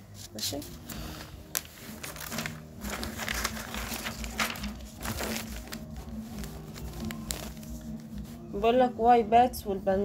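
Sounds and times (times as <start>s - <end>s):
paper rustling and crinkling: 0.2s - 8.5s.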